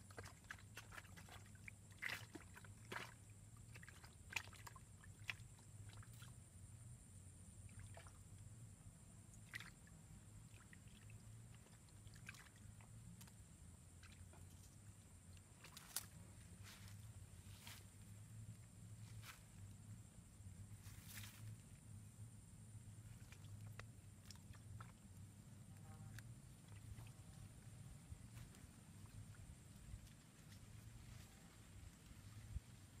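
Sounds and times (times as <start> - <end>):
faint high-pitched hum: 0.0 - 33.0.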